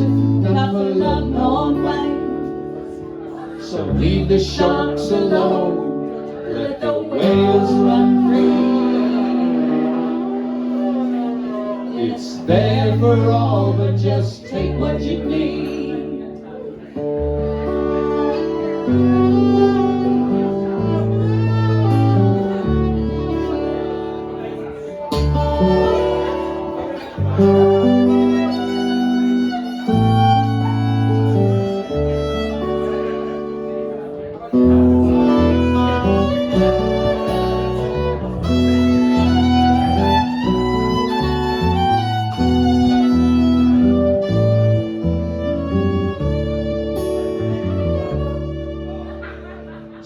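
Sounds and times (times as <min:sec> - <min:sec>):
acoustic guitar: 0:00.0 - 0:50.0
fiddle melody: 0:00.0 - 0:50.0
long held bass notes: 0:00.0 - 0:50.0.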